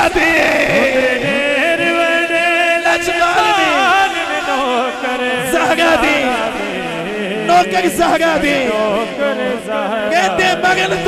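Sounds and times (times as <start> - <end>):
male voices chanting: 0.0 - 11.0.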